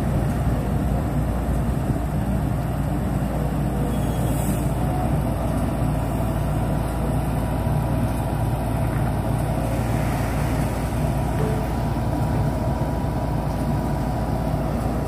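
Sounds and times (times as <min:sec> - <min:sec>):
crane engine droning: 0:00.0 - 0:15.0.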